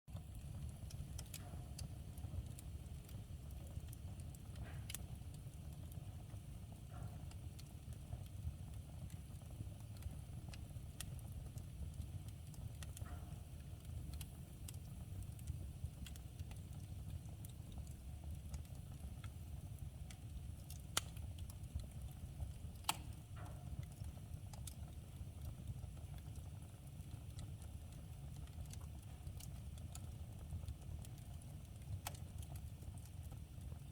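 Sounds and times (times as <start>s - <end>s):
wood fire crackling: 0.1s - 33.9s.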